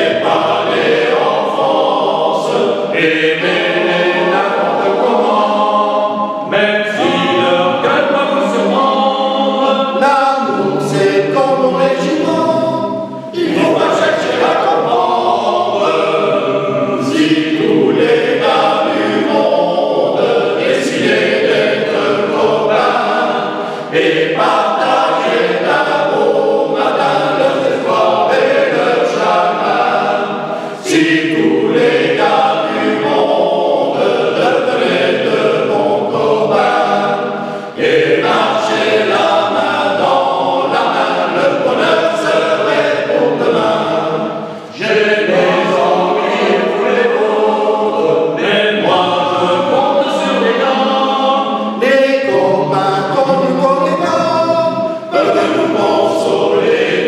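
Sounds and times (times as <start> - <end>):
men's choir singing: 0.0 - 57.0.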